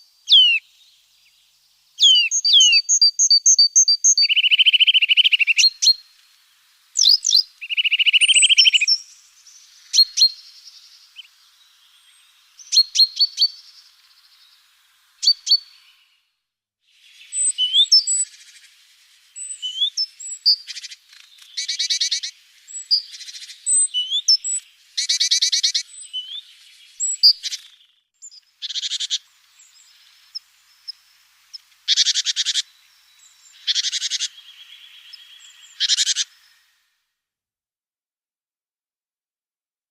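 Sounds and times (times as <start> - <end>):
songbirds chirping: 0.0 - 36.9
buzzy rattling bird calls: 2.0 - 16.0, 17.0 - 36.7.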